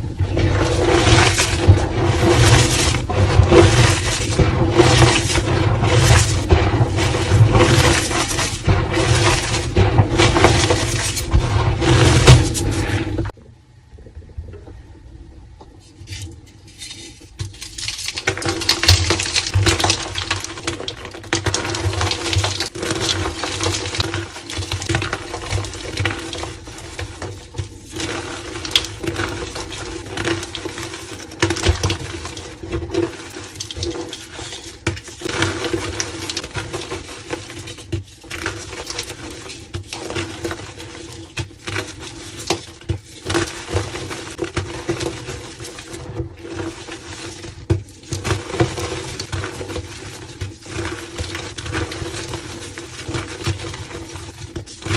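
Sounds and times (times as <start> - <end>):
chalk crumbling and crunching: 0.2 - 13.1, 15.9 - 54.9.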